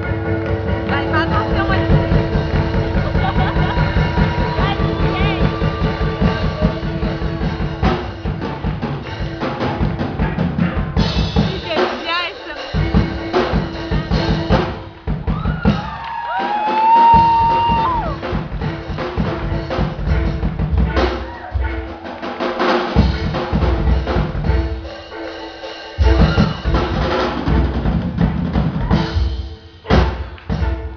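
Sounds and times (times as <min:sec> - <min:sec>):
drum kit playing a groove: 0:00.0 - 0:30.9.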